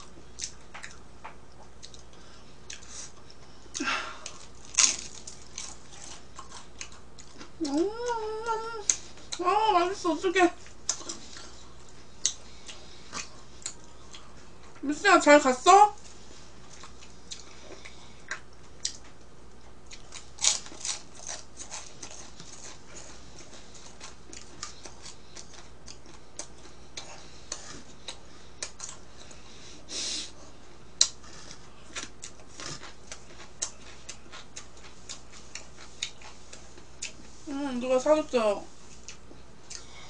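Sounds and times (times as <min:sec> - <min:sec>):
chewing crisp crust: 0:00.0 - 0:09.5, 0:10.6 - 0:14.8, 0:16.0 - 0:29.4, 0:31.0 - 0:37.3, 0:38.9 - 0:40.0.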